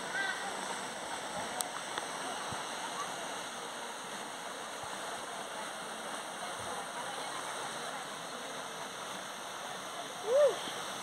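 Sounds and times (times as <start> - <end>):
faint distant voices: 0.0 - 11.0
waterfall rushing over boulders: 0.0 - 11.0.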